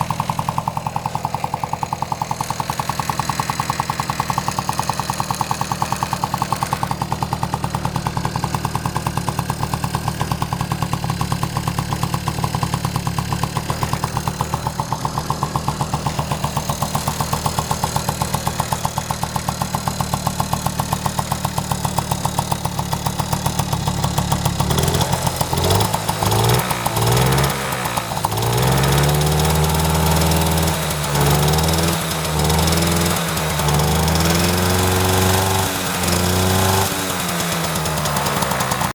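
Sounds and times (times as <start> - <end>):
moped engine idling and revving: 0.0 - 38.9.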